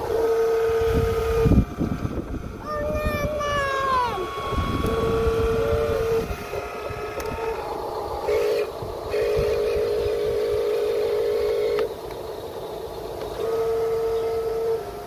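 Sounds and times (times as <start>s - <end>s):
electric motor whining: 0.0s - 12.3s, 13.0s - 15.0s.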